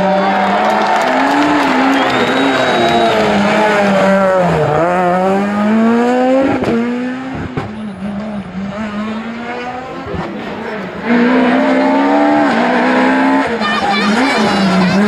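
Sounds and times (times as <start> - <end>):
rally car engine revving: 0.0 - 15.0
second rally car at high revs: 0.0 - 15.0.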